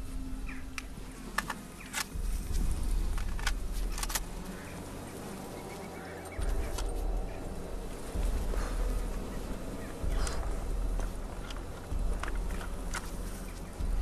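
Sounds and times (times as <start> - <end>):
footsteps through undergrowth: 0.0 - 14.0
low rumbling drone: 0.0 - 14.0
twigs snapping and rattles: 0.5 - 14.0.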